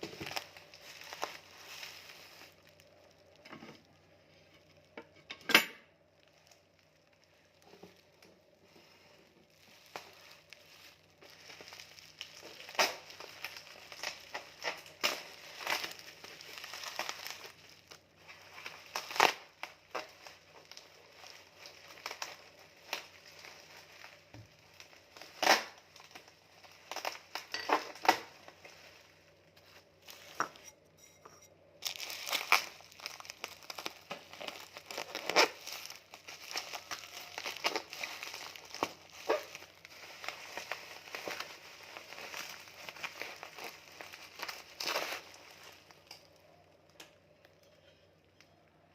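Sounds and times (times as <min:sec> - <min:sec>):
packaging crinkling: 0:00.0 - 0:05.0, 0:06.0 - 0:30.7, 0:31.8 - 0:47.6.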